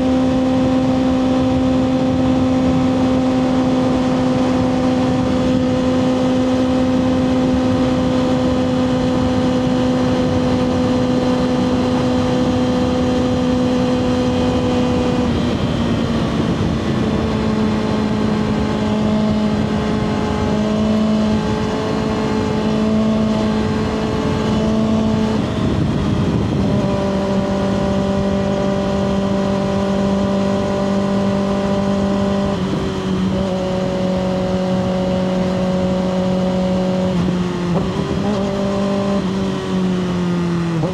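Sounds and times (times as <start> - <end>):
motorcycle engine running: 0.0 - 40.9
wind noise: 0.0 - 40.9.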